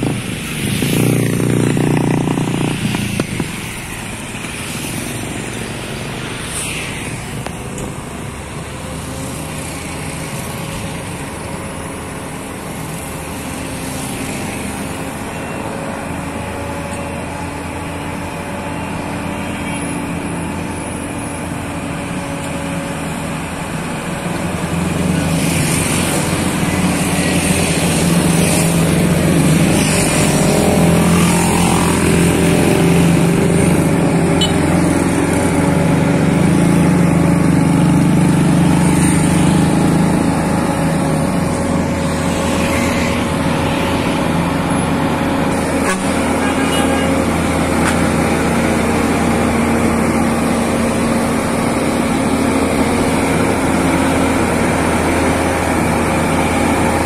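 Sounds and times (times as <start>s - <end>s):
diesel truck engine under load: 7.2s - 57.0s.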